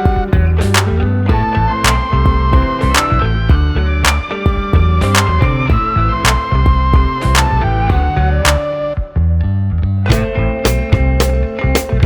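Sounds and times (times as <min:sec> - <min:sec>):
music with beat bass and plucked notes: 0:00.0 - 0:12.0.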